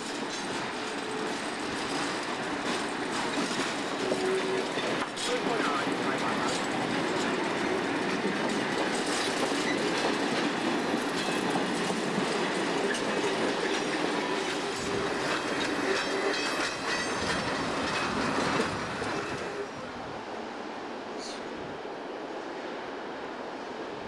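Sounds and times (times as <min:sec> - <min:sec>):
wheels clattering over rail joints: 0:00.0 - 0:19.6.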